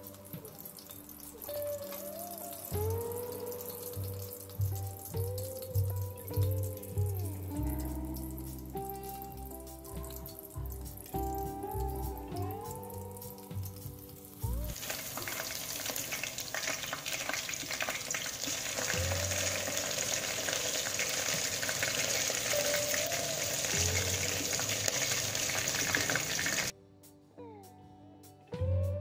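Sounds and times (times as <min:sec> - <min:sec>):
batter sizzling in hot oil: 0:00.0 - 0:26.7
quiet background guitar music: 0:00.0 - 0:29.0.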